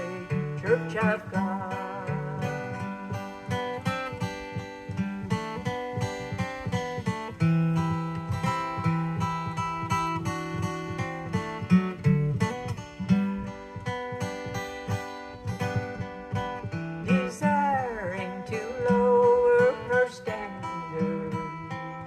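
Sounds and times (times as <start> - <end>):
acoustic guitar picking and strumming: 0.0 - 22.0.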